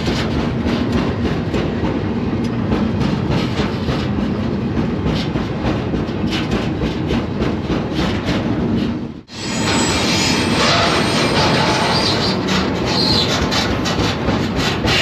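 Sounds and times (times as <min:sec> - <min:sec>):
freight train rumble: 0:00.0 - 0:15.0
metal clanking and rattling: 0:00.0 - 0:15.0.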